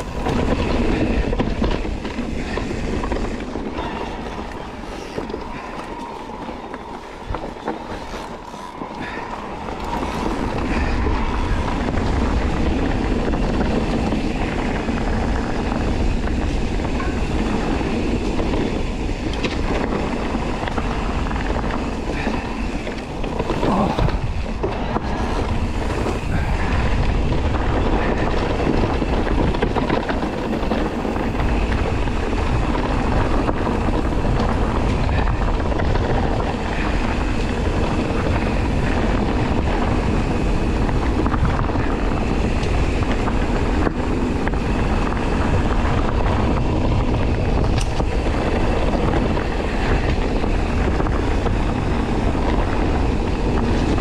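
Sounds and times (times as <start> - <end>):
tyres rolling over dirt: 0.0 - 54.0
wind buffeting microphone: 0.0 - 54.0.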